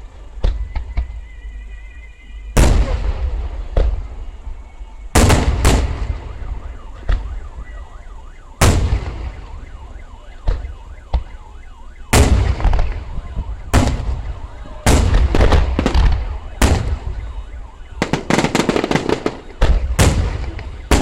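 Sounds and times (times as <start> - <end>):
fireworks booming: 2.6 - 4.5, 5.1 - 21.0.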